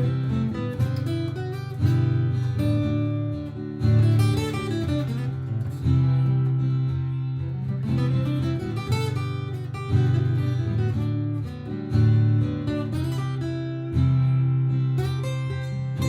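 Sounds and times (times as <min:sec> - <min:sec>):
acoustic guitar strummed and picked: 0:00.0 - 0:16.0.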